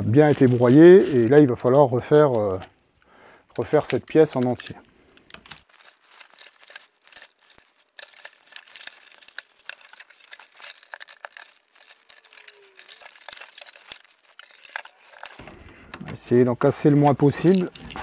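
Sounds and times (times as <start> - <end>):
wood and glue crackling and snapping: 0.0 - 2.7, 3.6 - 18.0.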